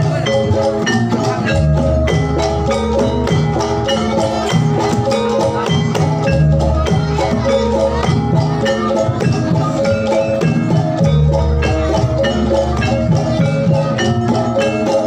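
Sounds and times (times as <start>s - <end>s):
gamelan music through speakers: 0.0s - 15.0s.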